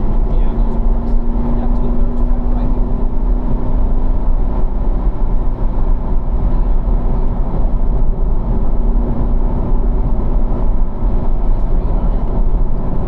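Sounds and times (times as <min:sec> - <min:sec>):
car engine droning: 0:00.0 - 0:13.0
road and wind noise: 0:00.0 - 0:13.0.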